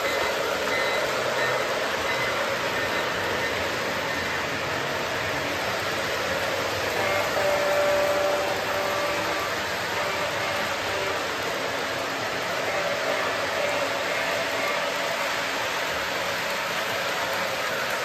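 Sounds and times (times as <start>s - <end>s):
model trains whirring: 0.0s - 18.0s.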